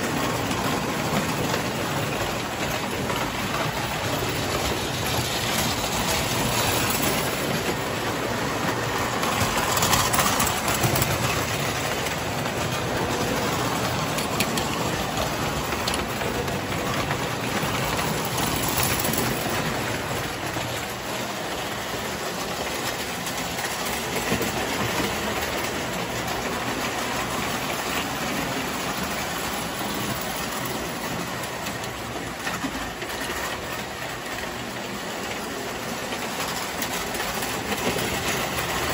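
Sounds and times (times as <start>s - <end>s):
toy train wheels clattering on rails: 0.0s - 38.9s.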